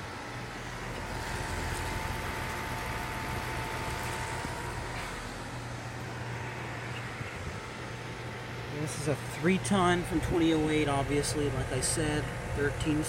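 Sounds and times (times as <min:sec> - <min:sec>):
compressor low hum: 0:00.0 - 0:13.0
condenser fan rushing air: 0:00.0 - 0:13.0
thin steady whine: 0:00.0 - 0:13.0.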